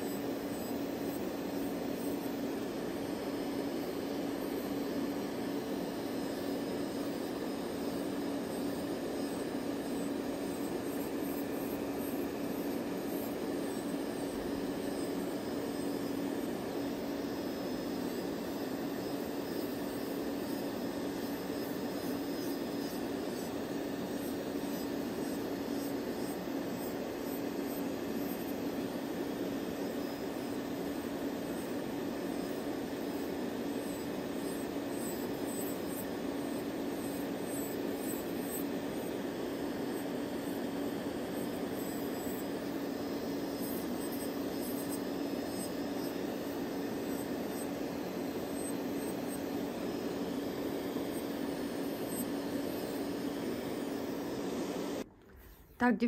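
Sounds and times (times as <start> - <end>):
electric nail drill running: 0.0 - 55.8.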